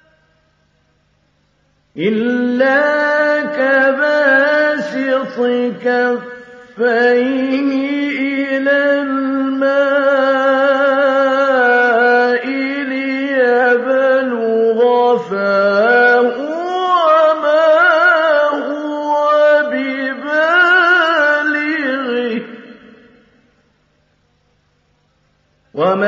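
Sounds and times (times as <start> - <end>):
man chanting melodically: 2.0 - 23.4, 25.7 - 26.0.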